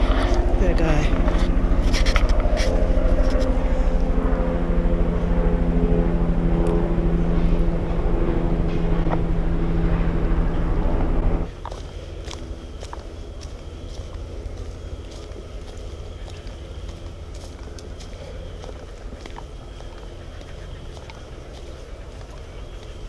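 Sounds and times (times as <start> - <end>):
engine drone: 0.0 - 23.0.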